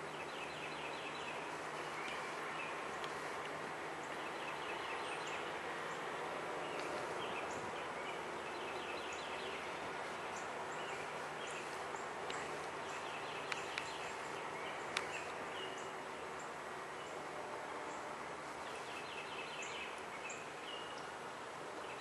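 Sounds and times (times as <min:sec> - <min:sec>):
small birds chirping and trilling: 0:00.0 - 0:22.0
steady background hiss: 0:00.0 - 0:22.0.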